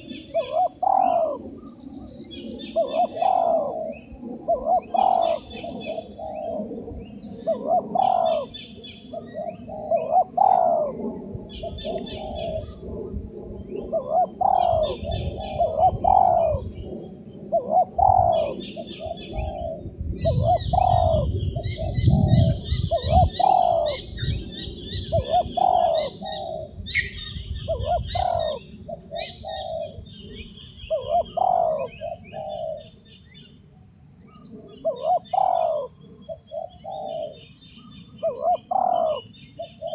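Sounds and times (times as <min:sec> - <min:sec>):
small birds chirping: 0:00.0 - 0:12.9, 0:13.6 - 0:33.6, 0:34.2 - 0:39.9
doves cooing: 0:00.0 - 0:33.1, 0:34.3 - 0:39.9.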